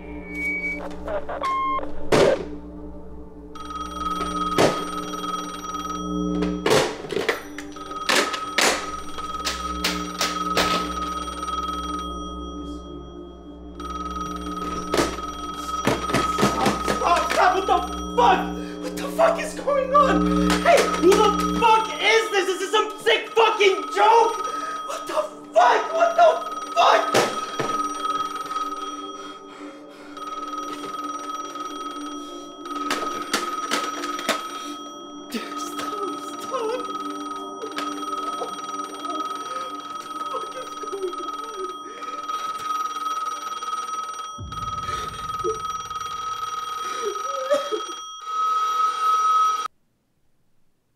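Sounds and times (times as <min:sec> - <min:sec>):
steady high ringing tone: 0:02.9 - 0:49.7.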